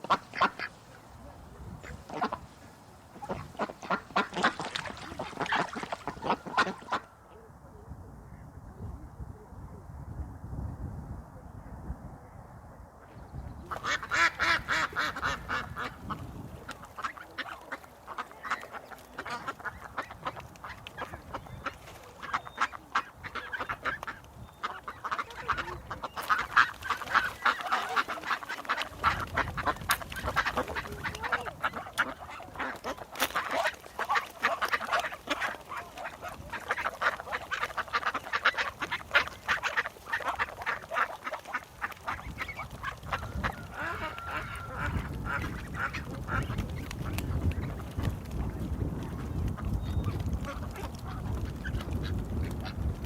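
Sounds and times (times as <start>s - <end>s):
ducks quacking: 0.0s - 7.2s, 13.6s - 53.0s.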